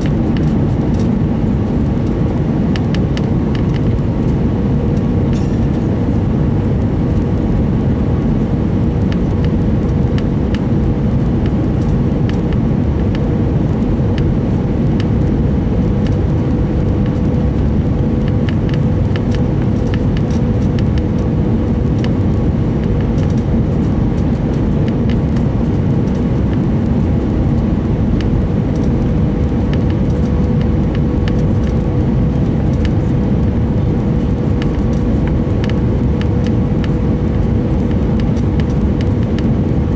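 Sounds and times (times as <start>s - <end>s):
airliner engine and airflow rushing: 0.0s - 39.9s
steady cabin hum: 0.0s - 39.9s.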